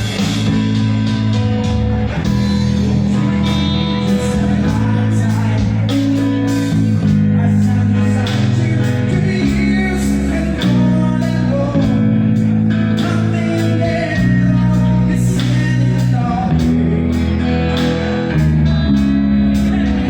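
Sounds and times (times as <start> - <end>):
rock band playing: 0.0 - 20.0
person singing: 1.9 - 20.0.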